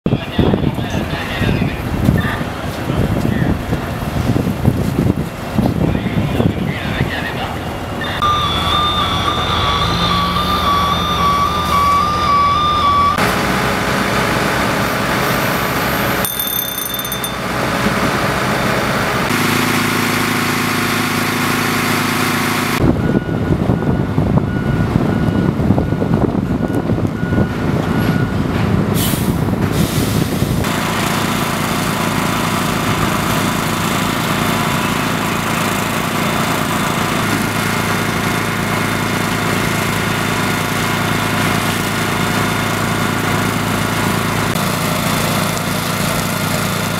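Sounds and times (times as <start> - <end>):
diesel truck engines running: 0.1 - 46.9.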